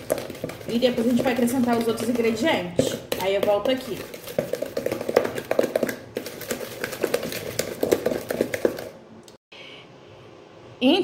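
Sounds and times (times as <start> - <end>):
utensil tapping and scraping a bowl: 0.0 - 9.0.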